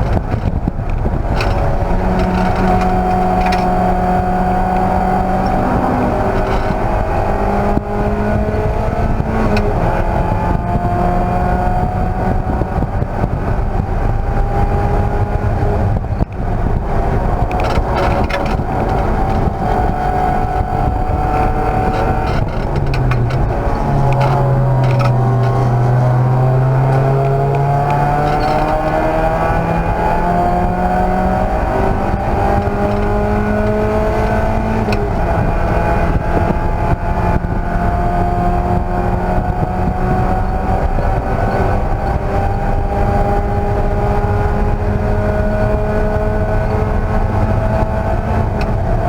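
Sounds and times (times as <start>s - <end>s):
race car engine accelerating: 0.0s - 49.0s.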